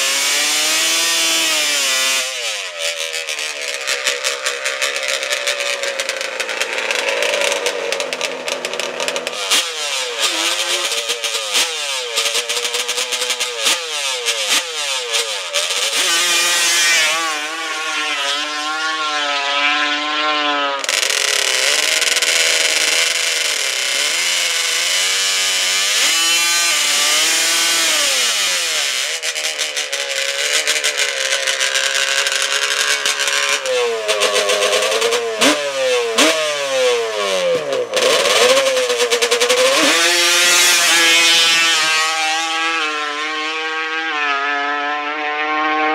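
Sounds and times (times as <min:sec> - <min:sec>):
two-stroke engines revving: 0:00.0 - 0:45.9.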